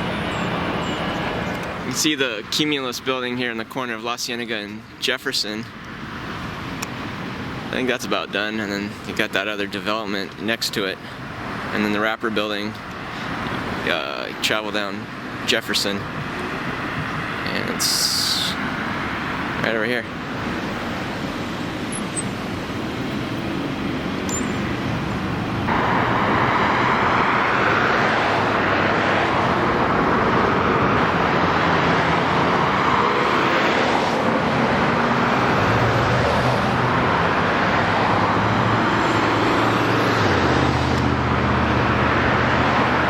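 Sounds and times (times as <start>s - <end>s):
road and traffic noise: 0.0s - 43.0s.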